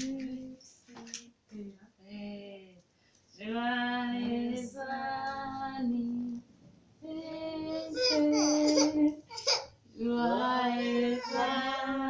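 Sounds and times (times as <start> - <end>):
women and children singing: 0.0 - 2.8, 3.4 - 12.0.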